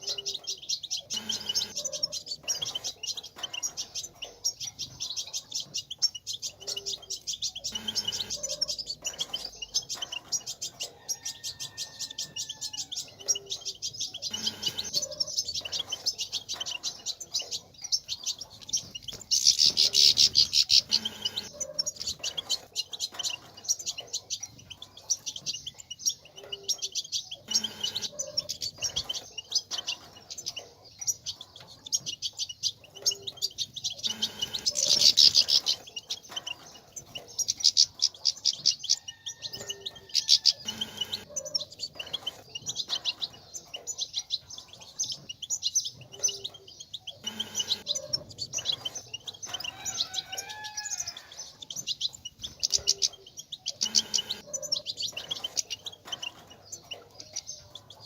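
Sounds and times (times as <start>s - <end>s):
goldfinches twittering: 0.0s - 58.0s.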